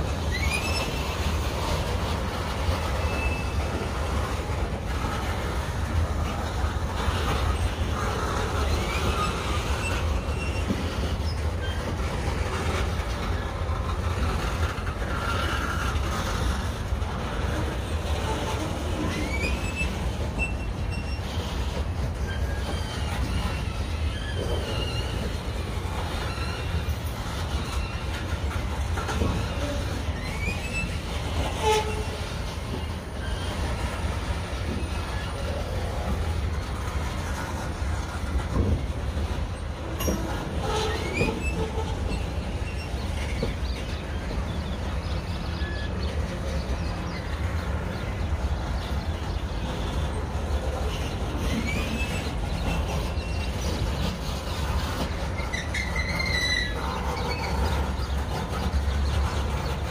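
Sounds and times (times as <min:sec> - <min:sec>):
high wheel squeals: 0:00.0 - 0:59.9
train wheels rumbling on rail: 0:00.0 - 0:59.9.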